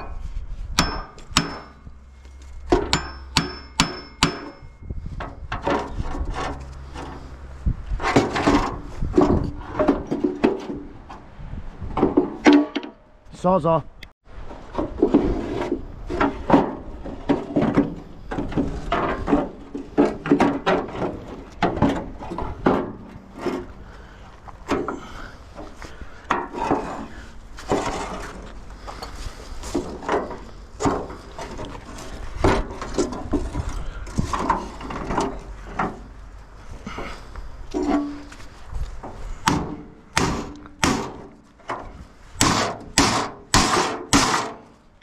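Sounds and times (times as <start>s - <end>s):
tools and metal parts clunking: 0.0s - 11.3s, 11.9s - 13.2s, 14.4s - 23.8s, 24.5s - 45.0s.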